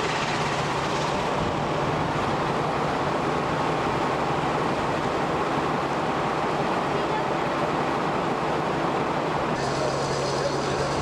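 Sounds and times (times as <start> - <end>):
locomotive engine hum: 0.0 - 11.0.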